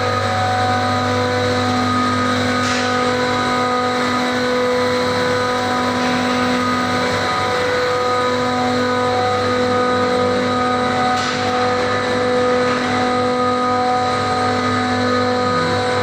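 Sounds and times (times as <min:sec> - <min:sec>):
machinery humming and whirring: 0:00.0 - 0:16.0.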